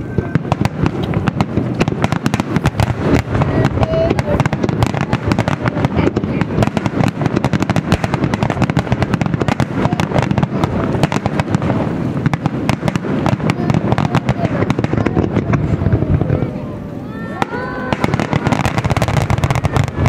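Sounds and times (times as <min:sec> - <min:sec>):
fireworks cracking and banging: 0:00.0 - 0:20.0.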